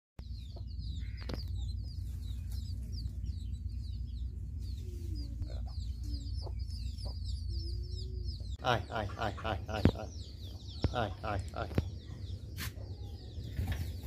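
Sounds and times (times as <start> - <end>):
chicks peeping: 0.2 - 14.0
low rumble: 0.2 - 14.0
hen clucking: 0.3 - 14.0.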